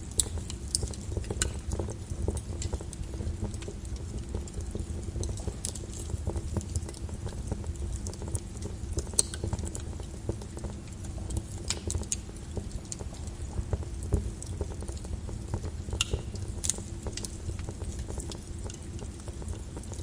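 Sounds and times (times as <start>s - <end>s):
lava crust crackling: 0.0s - 20.0s.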